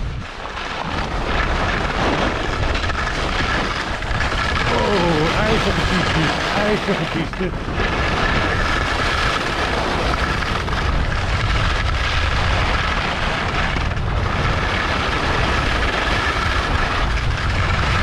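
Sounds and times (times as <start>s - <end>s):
skis scraping over icy snow: 0.0s - 18.0s
wind rushing over microphone: 0.0s - 18.0s.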